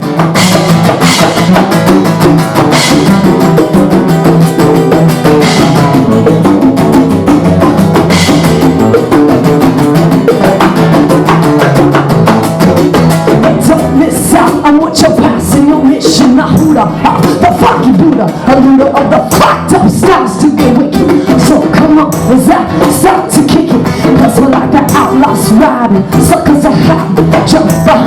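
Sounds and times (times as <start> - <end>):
hand drums and percussion: 0.0 - 28.0.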